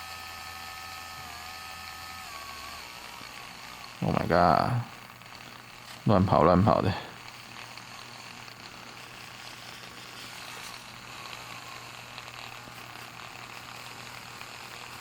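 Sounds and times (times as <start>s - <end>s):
electric polishing tool humming: 0.0s - 15.0s.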